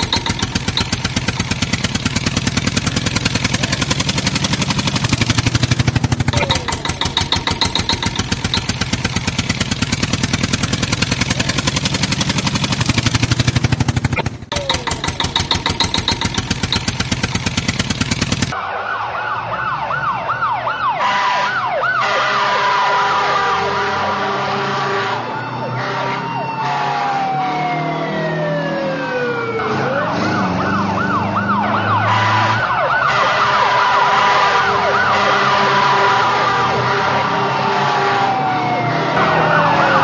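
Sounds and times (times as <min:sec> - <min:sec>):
pulsing engine: 0:00.0 - 0:18.6, 0:19.2 - 0:40.0
emergency vehicle sirens: 0:00.0 - 0:40.0.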